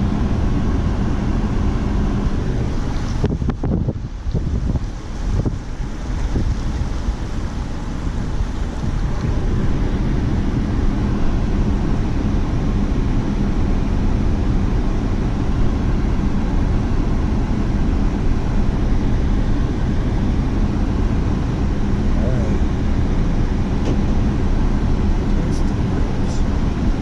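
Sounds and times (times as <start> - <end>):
constant rushing noise: 0.0 - 27.0
vehicle engine running: 0.0 - 27.0.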